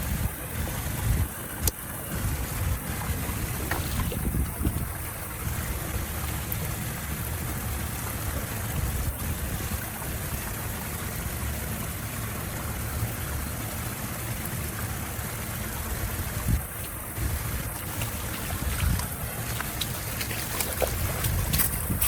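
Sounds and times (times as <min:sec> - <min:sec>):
flowing water: 0:00.0 - 0:22.0.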